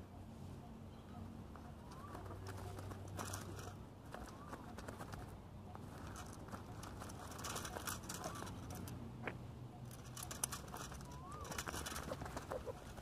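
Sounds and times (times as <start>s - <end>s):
faint crackling and rustling: 1.4s - 13.0s.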